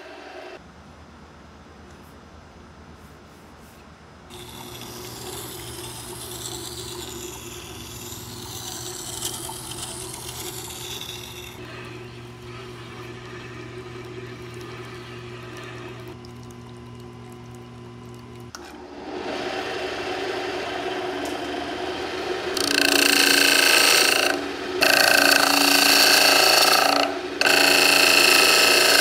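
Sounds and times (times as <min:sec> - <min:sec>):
grinder motor humming: 0:04.3 - 0:29.0.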